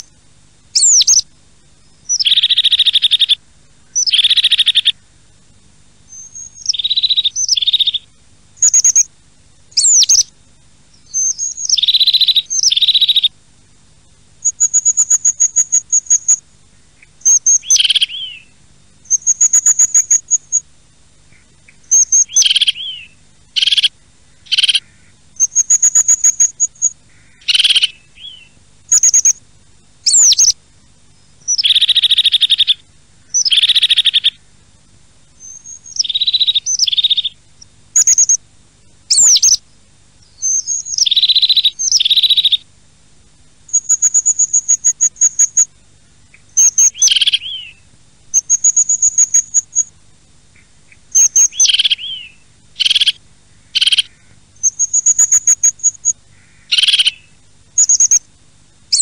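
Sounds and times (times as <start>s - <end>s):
songbirds trilling and chirping: 0.0s - 59.0s.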